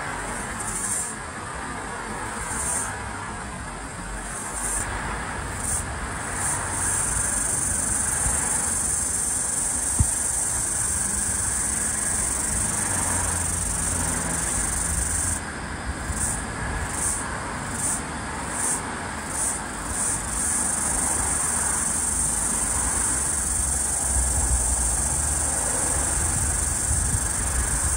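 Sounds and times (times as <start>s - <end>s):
cicada buzzing: 0.0s - 27.9s.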